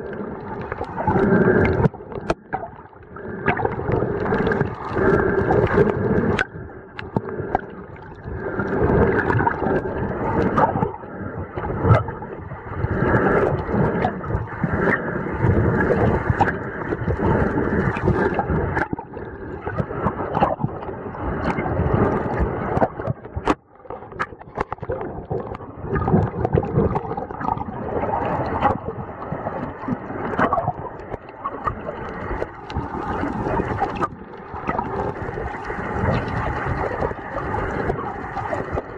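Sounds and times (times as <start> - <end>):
muffled underwater gurgling: 0.0 - 38.9.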